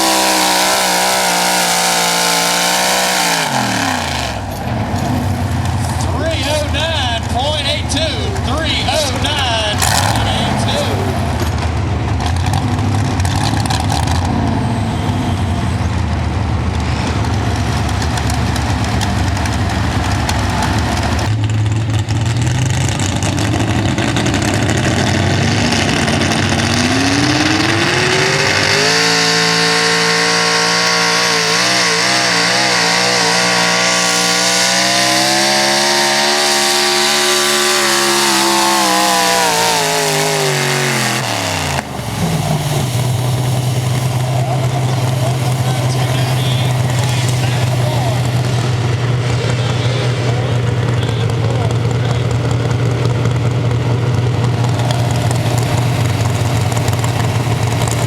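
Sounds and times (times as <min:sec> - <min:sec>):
truck engine revving under load: 0:00.0 - 0:58.0.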